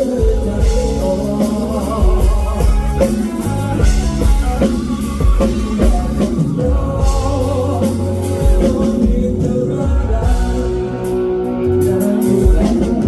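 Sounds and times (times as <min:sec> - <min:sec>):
rock band instrumental: 0:00.0 - 0:13.0.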